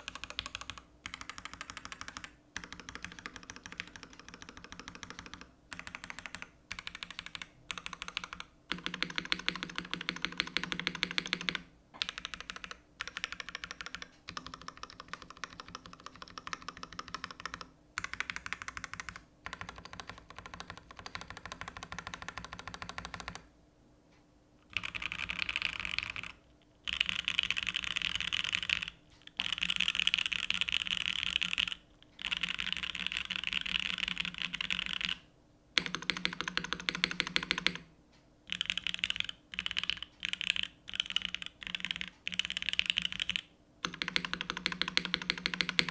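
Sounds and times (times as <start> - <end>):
typing on mechanical keyboard: 0.0 - 23.5, 24.7 - 35.2, 35.8 - 37.8, 38.5 - 45.9.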